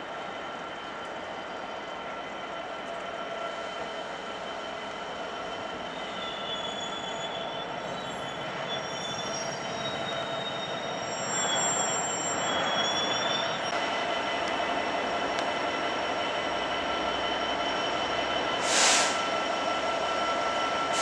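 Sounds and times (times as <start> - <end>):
diesel locomotive engine drone: 0.0 - 21.0
wheels squealing on rails: 0.0 - 21.0.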